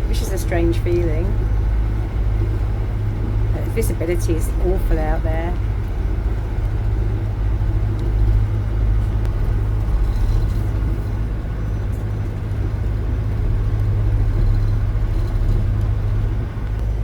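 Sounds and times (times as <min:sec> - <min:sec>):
boat diesel engine droning: 0:00.0 - 0:17.0.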